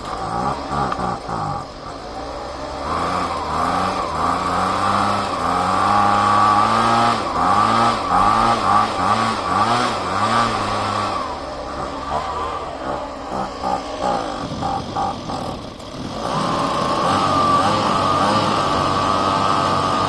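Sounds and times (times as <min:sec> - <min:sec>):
leaf blower engine revving: 0:00.0 - 0:20.0.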